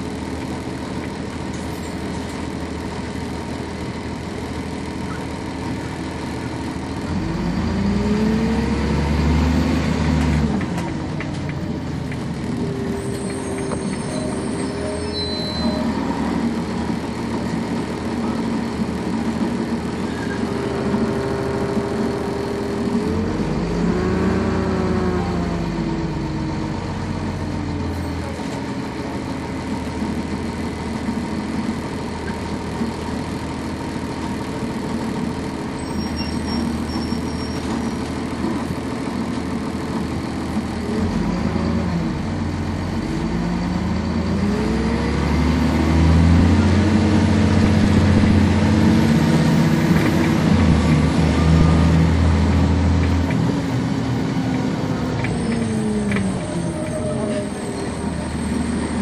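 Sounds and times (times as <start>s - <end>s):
bus diesel engine revving: 2.0s - 59.0s.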